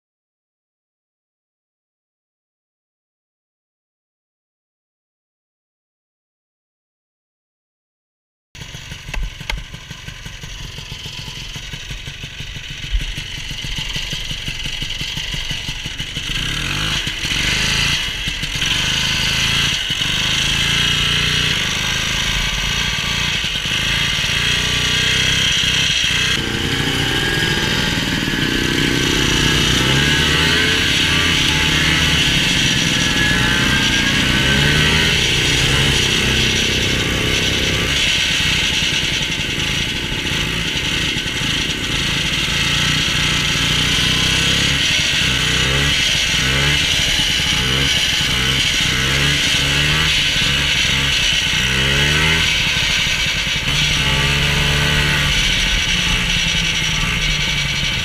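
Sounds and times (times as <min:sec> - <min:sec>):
snowmobile engine revving: 0:08.6 - 0:58.0.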